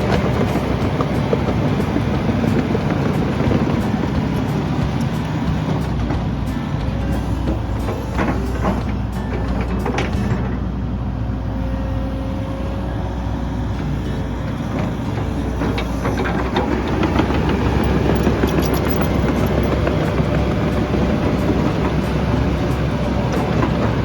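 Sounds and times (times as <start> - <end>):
metal knocks and clanks: 0.0 - 10.9, 14.5 - 24.0
excavator diesel engine running: 0.0 - 24.0.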